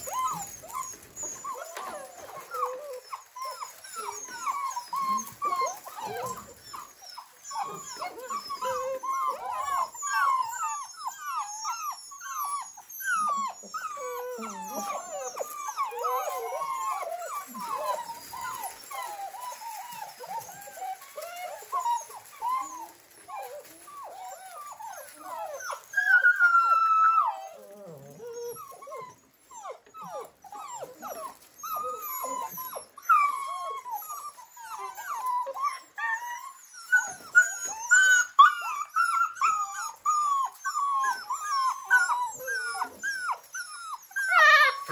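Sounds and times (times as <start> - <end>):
puppies whining and yipping: 0.0 - 44.9.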